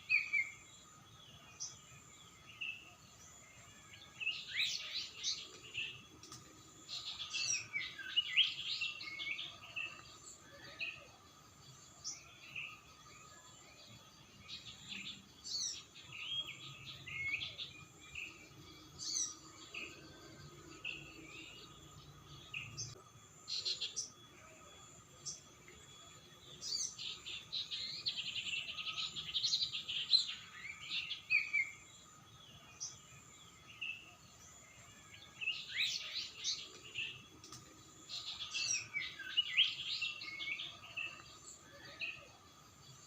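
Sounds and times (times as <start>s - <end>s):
wild birds chirping and singing: 0.0s - 43.0s.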